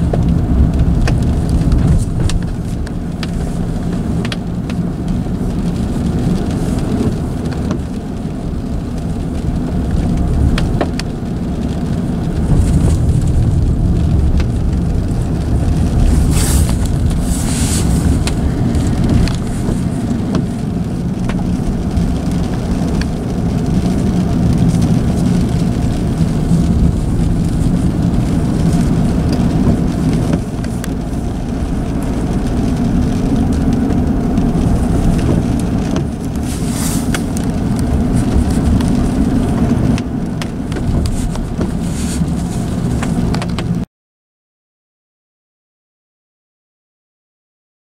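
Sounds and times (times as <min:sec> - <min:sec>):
car engine and tyres on wet road: 0:00.0 - 0:43.9
rain on car: 0:00.0 - 0:43.9.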